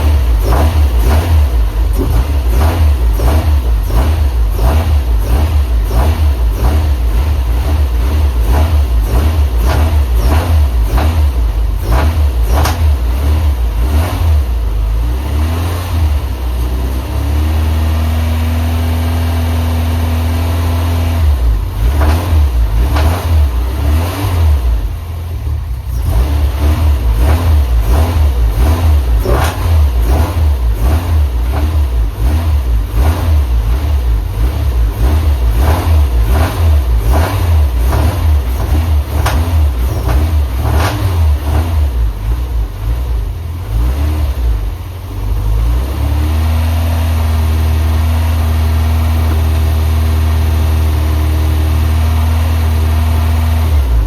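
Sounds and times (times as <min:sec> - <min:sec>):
car engine revving in blips: 0:00.0 - 0:54.0.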